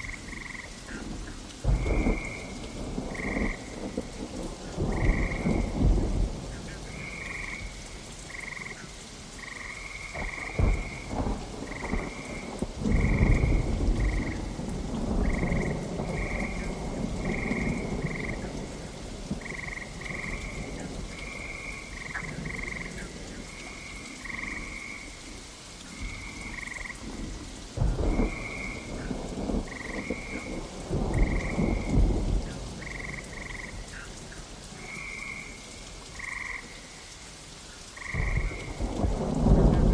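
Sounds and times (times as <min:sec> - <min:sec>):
thunder rumbling: 0:00.0 - 0:08.7, 0:09.5 - 0:24.9, 0:26.0 - 0:35.6, 0:38.0 - 0:39.9
frogs croaking: 0:00.0 - 0:39.9
steady rain: 0:00.0 - 0:39.9.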